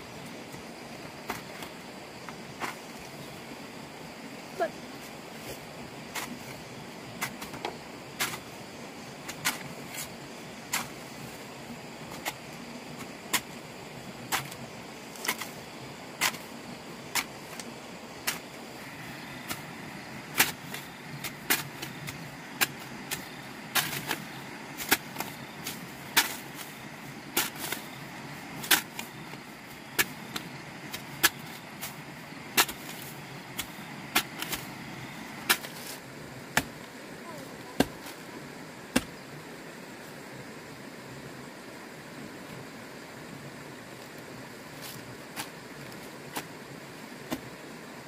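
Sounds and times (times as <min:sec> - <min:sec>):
steady background hiss: 0:00.0 - 0:48.0.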